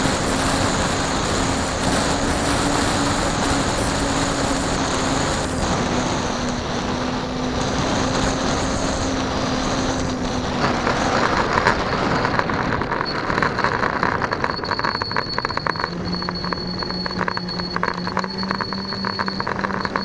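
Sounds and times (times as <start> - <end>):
wind rush: 0.0 - 19.7
model airplane motor tone: 0.0 - 20.0
wheels rattling on asphalt: 0.0 - 20.0.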